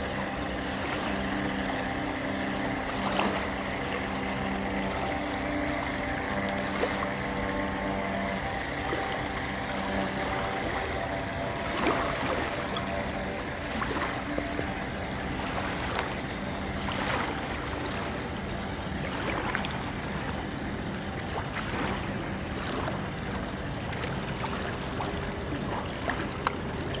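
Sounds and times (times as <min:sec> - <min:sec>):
small waves lapping and splashing: 0:00.0 - 0:27.0
wind and water wash: 0:00.0 - 0:27.0.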